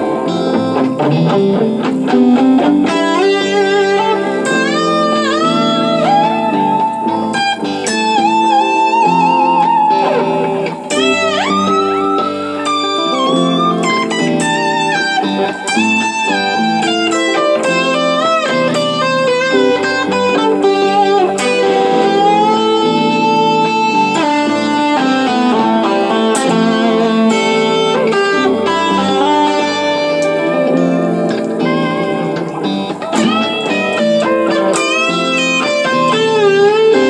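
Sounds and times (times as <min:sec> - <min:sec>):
electric guitar lead with bends: 0:00.0 - 0:37.0
looped guitar chords: 0:00.0 - 0:37.0.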